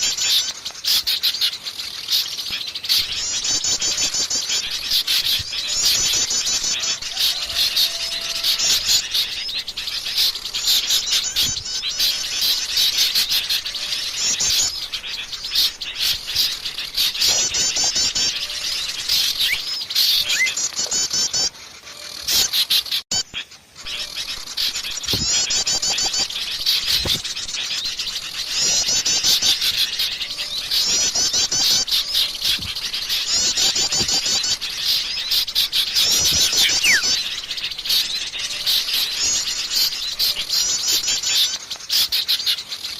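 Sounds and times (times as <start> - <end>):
small songbirds chirping and trilling: 0.0 - 42.9.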